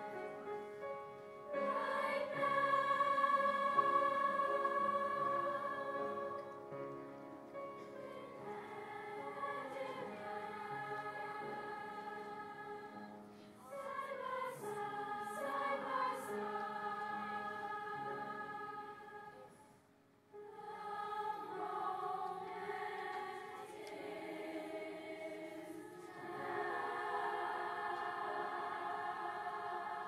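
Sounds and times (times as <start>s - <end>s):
children's choir singing: 1.5s - 6.9s, 7.7s - 19.6s, 20.4s - 30.0s.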